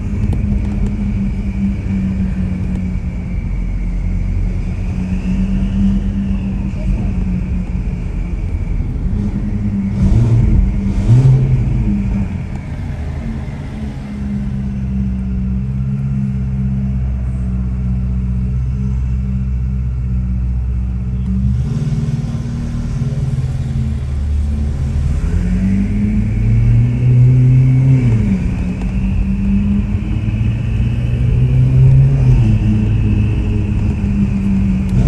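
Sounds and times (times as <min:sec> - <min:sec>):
sports car engine running: 0:00.0 - 0:35.0.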